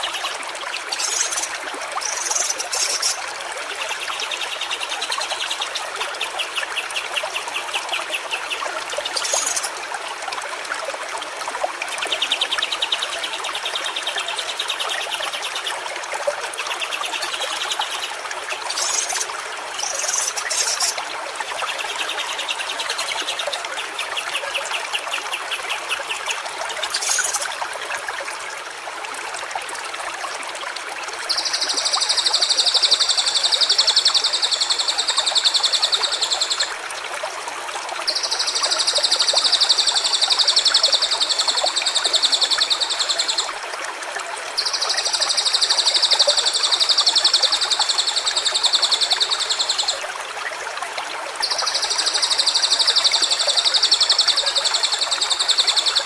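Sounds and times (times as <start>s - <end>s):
water trickling in a stream: 0.0s - 56.0s.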